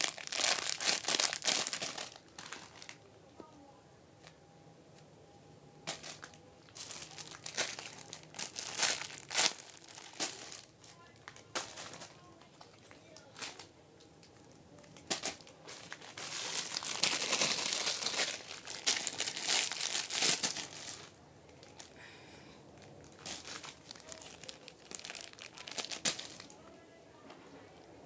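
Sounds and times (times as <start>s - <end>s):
plastic wrapping crinkling: 0.0s - 3.0s, 5.8s - 22.1s, 22.8s - 26.7s.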